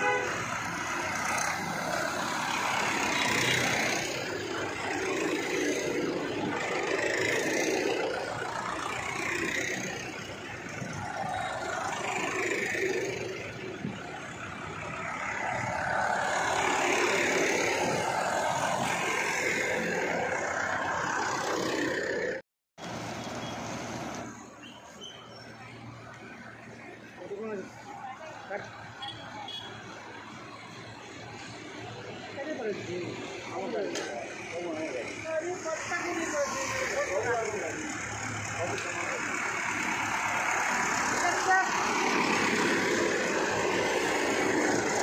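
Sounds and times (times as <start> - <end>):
tractors driving past: 0.0 - 45.0.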